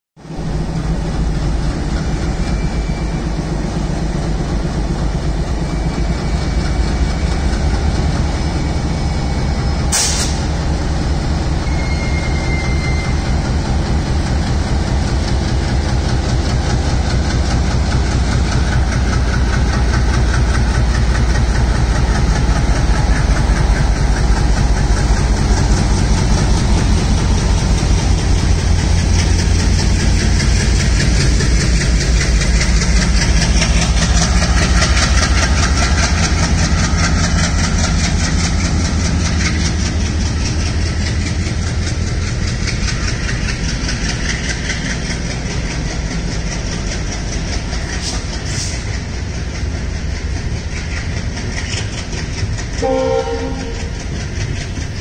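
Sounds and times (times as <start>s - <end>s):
diesel locomotive engine chugging: 0.2s - 55.0s.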